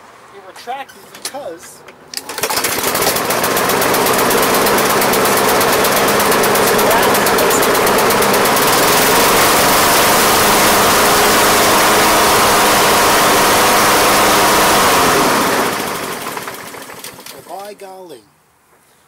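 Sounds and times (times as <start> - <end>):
lawn mower engine running: 2.1 - 17.7.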